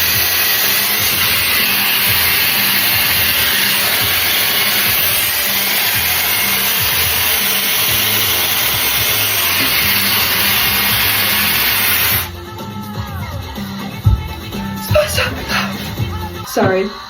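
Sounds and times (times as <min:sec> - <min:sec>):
hair dryer blowing air: 0:00.0 - 0:12.4, 0:14.1 - 0:16.5.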